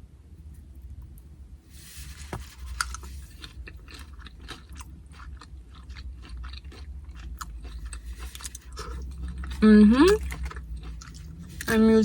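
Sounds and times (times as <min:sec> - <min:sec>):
crunching and chewing chips: 0:02.0 - 0:11.8.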